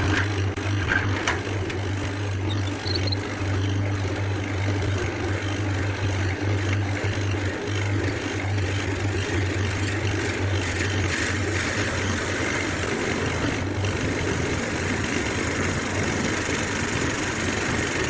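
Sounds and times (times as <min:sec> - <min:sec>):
woodworking machine running: 0:00.0 - 0:18.0.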